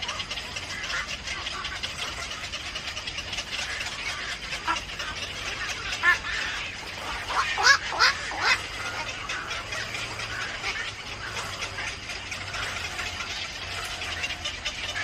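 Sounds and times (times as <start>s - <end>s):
bird harsh calls: 0.0s - 15.0s.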